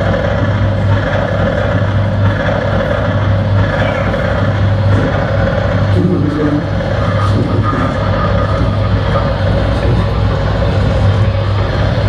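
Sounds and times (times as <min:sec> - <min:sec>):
amplified noise music: 0:00.0 - 0:12.0.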